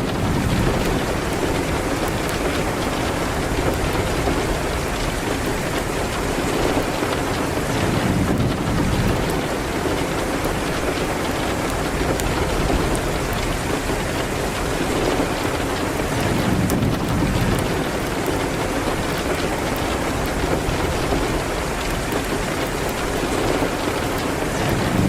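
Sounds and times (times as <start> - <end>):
fireplace crackling: 0.0 - 25.0
rain hitting a window: 0.0 - 25.0.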